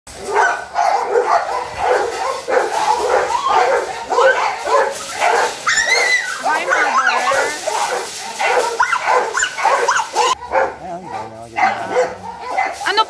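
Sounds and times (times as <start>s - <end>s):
puppies barking: 0.1s - 13.0s.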